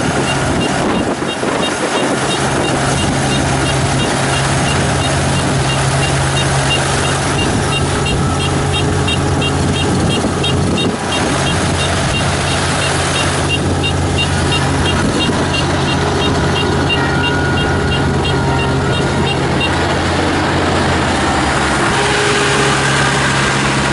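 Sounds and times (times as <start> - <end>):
regular high ticking: 0.0 - 19.9
combine harvester engine hum: 0.0 - 23.9.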